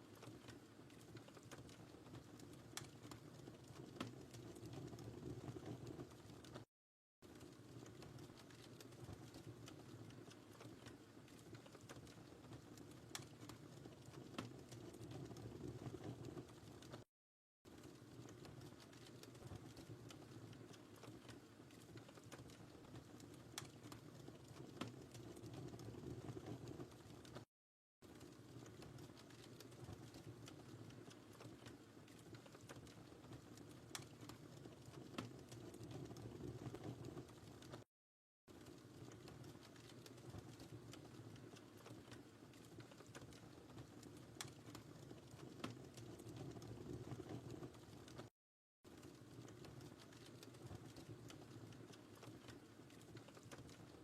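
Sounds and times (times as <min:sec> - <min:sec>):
wood fire pops and ticks: 0:00.0 - 0:17.1, 0:17.7 - 0:37.8, 0:38.5 - 0:48.3, 0:48.9 - 0:54.0.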